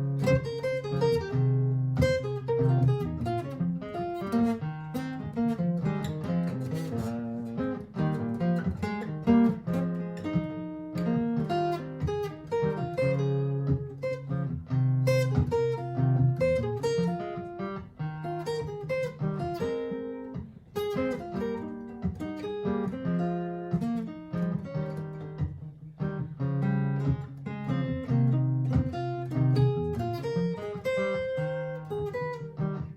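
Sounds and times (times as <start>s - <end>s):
picked acoustic guitar melody: 0.0s - 32.9s
strummed guitar chords: 0.0s - 32.9s.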